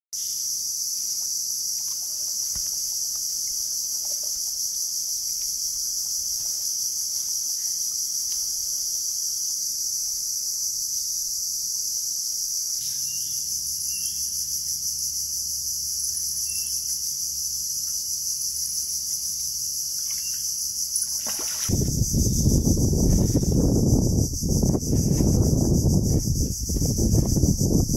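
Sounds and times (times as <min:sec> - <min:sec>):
insects shrilling: 0:01.3 - 0:27.9.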